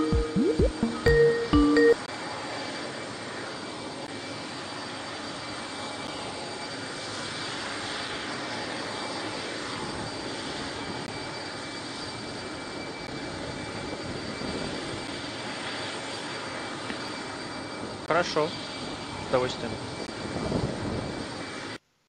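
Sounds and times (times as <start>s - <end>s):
jet engine whine and rush: 0.0s - 21.8s.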